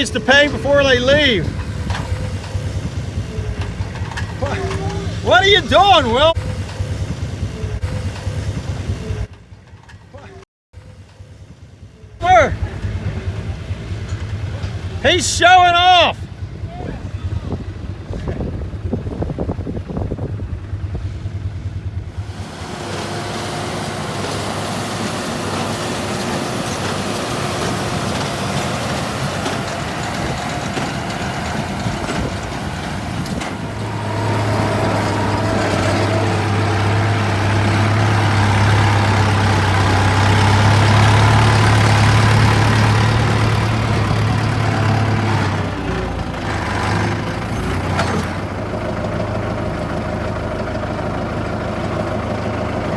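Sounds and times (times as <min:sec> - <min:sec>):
heavy vehicle engine humming: 0:00.0 - 0:52.9.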